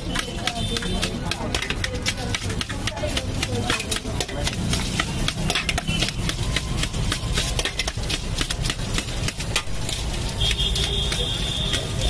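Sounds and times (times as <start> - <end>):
fried noodles rustling in steel pot: 0.0 - 12.0.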